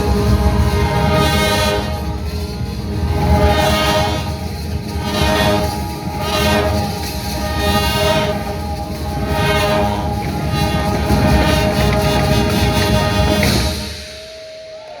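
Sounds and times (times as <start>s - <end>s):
brass chords: 0.0s - 14.4s
drums: 0.0s - 15.0s.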